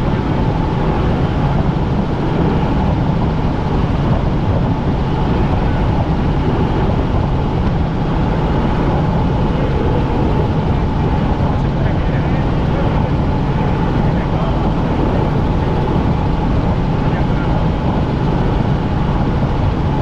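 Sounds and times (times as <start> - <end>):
helicopter rotor and engine noise: 0.0 - 20.0.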